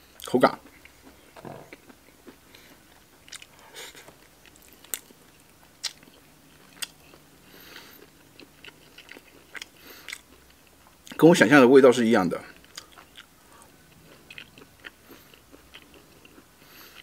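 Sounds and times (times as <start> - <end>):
man chewing food: 0.1 - 11.2, 12.5 - 17.0.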